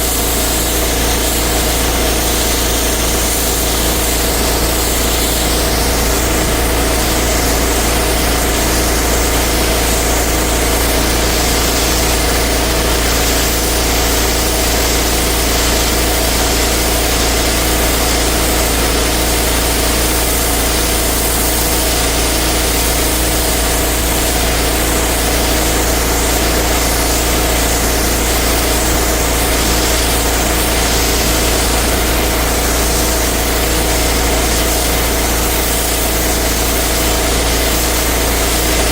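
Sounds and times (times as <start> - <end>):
pressure washer engine hum: 0.0 - 38.9
pressure washer hiss: 0.0 - 38.9.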